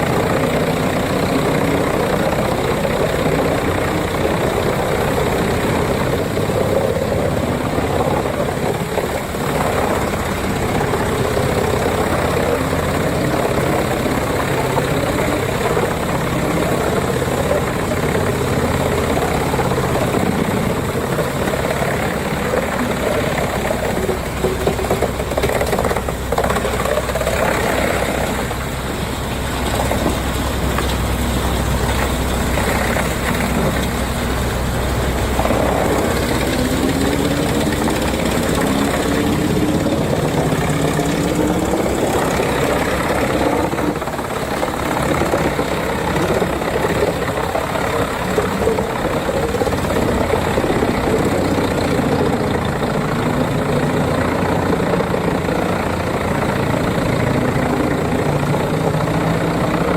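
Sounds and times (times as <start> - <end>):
wood being chipped: 0.0 - 59.9
wood chipper engine running: 0.0 - 59.9.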